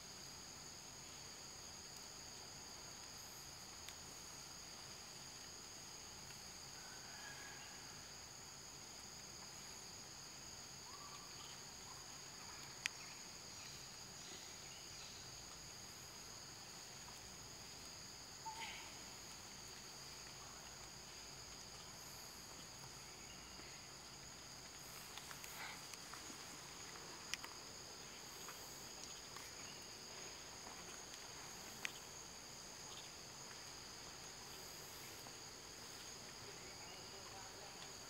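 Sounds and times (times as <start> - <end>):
high-pitched insect chorus: 0.0 - 38.0.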